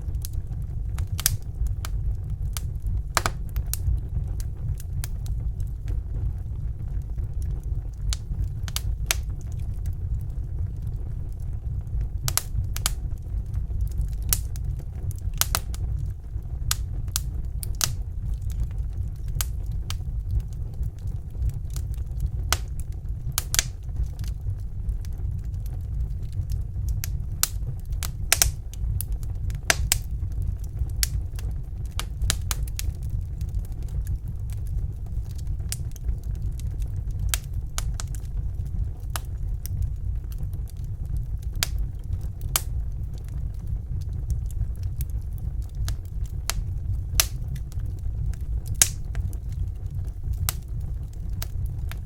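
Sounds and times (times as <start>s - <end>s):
steady low rumble: 0.0s - 52.0s
wood fire crackling: 0.0s - 52.0s.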